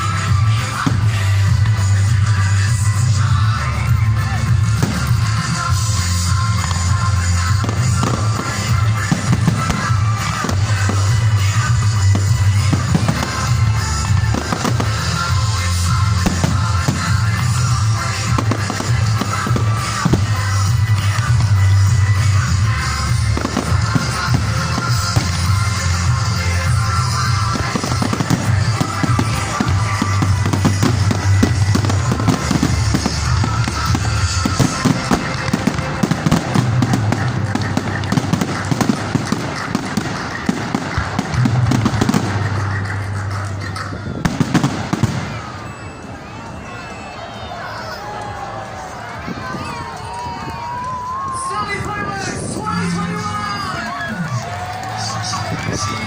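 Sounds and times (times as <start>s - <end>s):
music with heavy bass: 0.0s - 45.4s
fireworks bangs and crackles: 0.0s - 56.0s.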